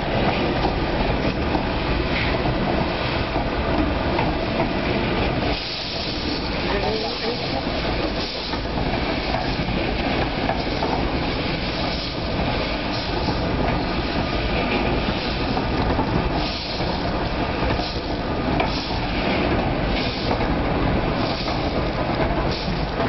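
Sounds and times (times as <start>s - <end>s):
roasting drum rumbling: 0.0s - 23.0s.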